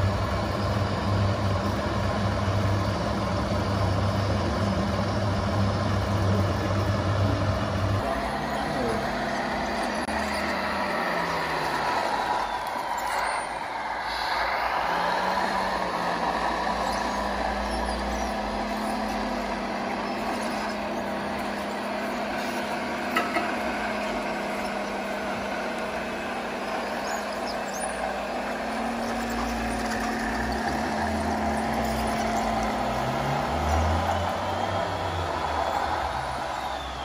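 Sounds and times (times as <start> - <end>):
model truck motor drone: 0.0 - 37.0.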